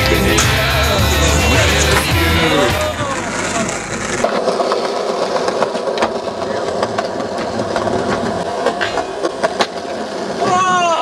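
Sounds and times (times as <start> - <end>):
skateboard clacks: 0.0 - 11.0
skateboard sliding on metal rail: 0.0 - 11.0
skateboard wheels rolling: 0.0 - 11.0.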